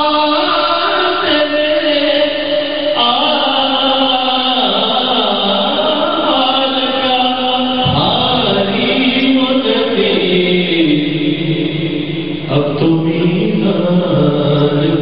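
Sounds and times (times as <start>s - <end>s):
man chanting through microphone: 0.0s - 15.0s.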